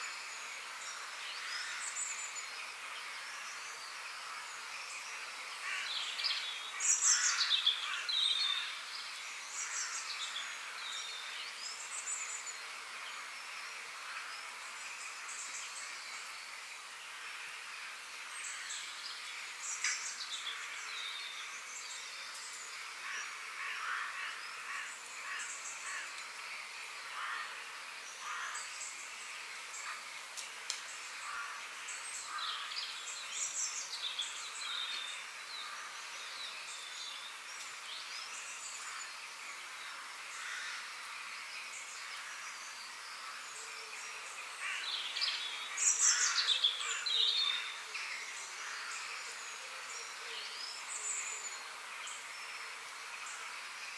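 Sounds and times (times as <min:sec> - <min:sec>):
steady background hiss: 0:00.0 - 0:53.9.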